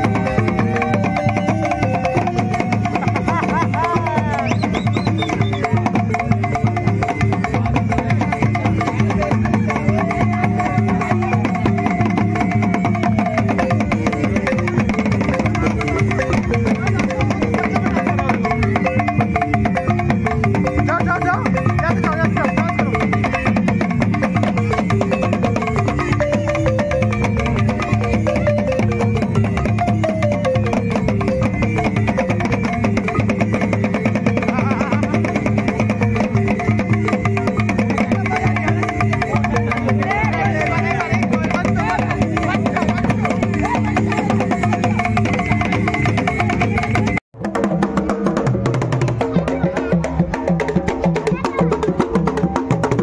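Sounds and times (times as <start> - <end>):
stepping melody line: 0.0 - 47.2
group hand drumming: 0.0 - 53.0
wooden xylophone playing: 0.0 - 53.0.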